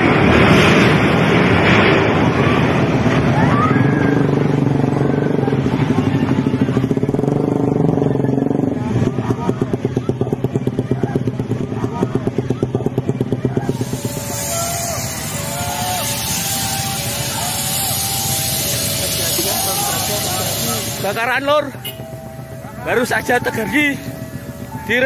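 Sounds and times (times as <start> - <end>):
vehicle engine running: 0.0 - 25.0
onlookers' voices: 1.6 - 25.0.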